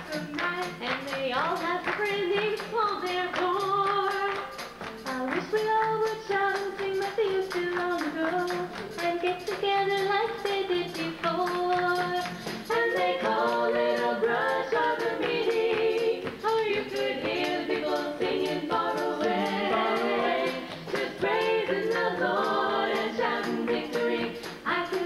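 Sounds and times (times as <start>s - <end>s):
acoustic guitar: 0.0s - 25.0s
women singing in harmony: 0.0s - 25.0s.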